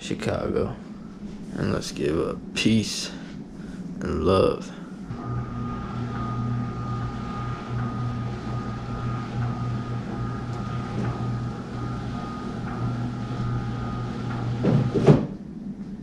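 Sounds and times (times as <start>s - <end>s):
faint high whine: 0.0s - 16.0s
low mechanical hum: 0.0s - 16.0s.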